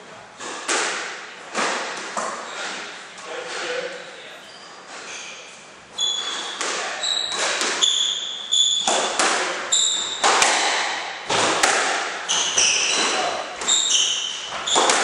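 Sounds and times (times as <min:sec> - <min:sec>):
squash ball hitting rackets and walls: 0:00.4 - 0:03.9, 0:04.9 - 0:15.0
shoes squeaking on court floor: 0:01.6 - 0:15.0.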